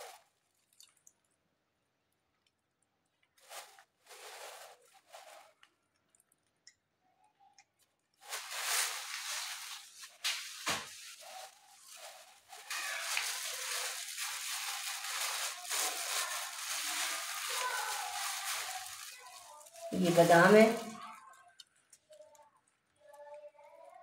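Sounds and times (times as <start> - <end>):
rustling and crinkling handling noise: 0.0 - 1.2, 3.1 - 6.6, 7.8 - 24.0.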